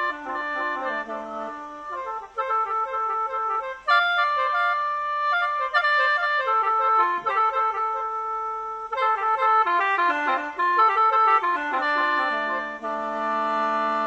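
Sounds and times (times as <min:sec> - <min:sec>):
free-reed mouth organ melody: 0:00.0 - 0:14.0.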